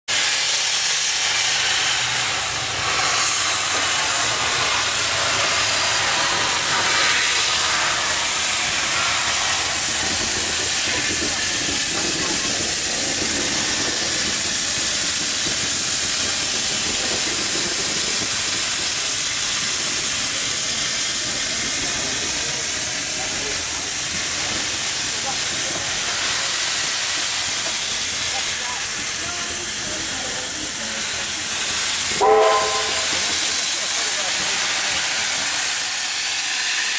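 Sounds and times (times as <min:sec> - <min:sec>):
steam locomotive steam hissing: 0:00.1 - 0:36.9.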